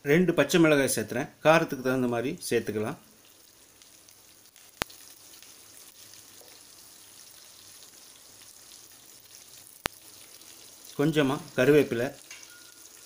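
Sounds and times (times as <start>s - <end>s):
spices sizzling in hot oil: 1.8s - 13.0s.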